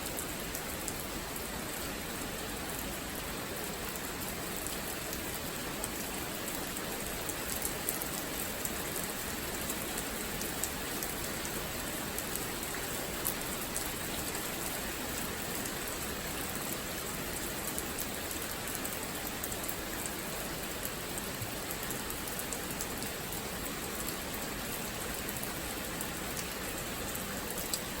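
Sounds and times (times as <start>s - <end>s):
rain pattering on surfaces: 0.0s - 28.0s.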